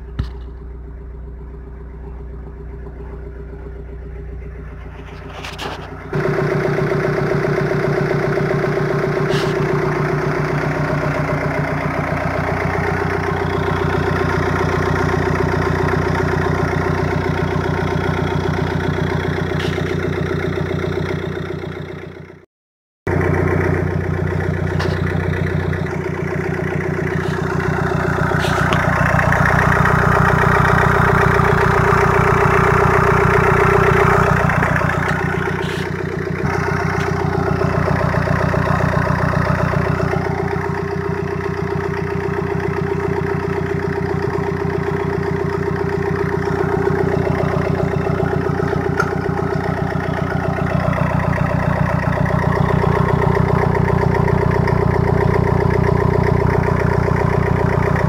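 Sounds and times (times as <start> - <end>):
diesel engine idling: 0.0 - 22.4, 23.1 - 58.0.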